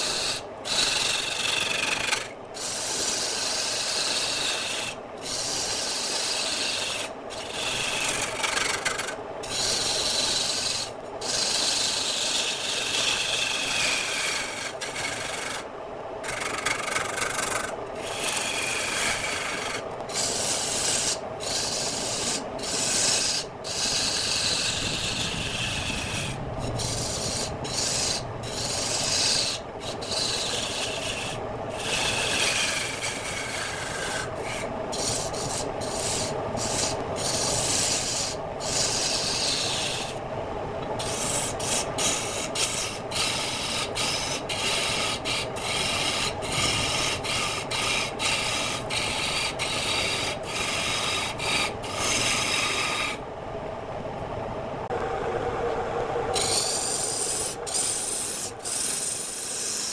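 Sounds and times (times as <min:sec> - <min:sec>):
lathe tool scraping spinning wood: 0:00.0 - 0:40.2, 0:41.0 - 0:53.2, 0:56.3 - 0:59.9.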